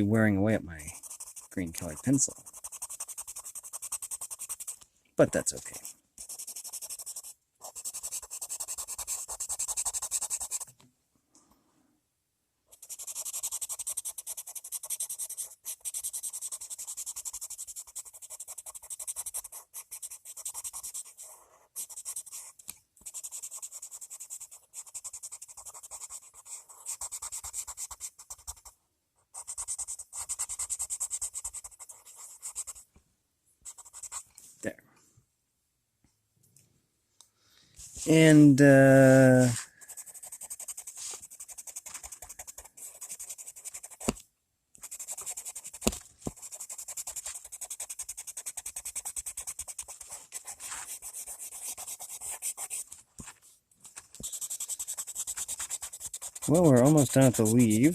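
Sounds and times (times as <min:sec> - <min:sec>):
pencil scratching on paper: 0:00.8 - 0:10.7, 0:12.7 - 0:32.8, 0:33.6 - 0:34.4, 0:39.1 - 0:44.2, 0:44.8 - 0:57.9.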